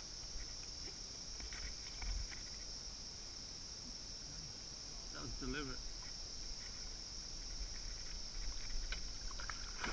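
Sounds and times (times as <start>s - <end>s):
insects droning: 0.0s - 9.9s.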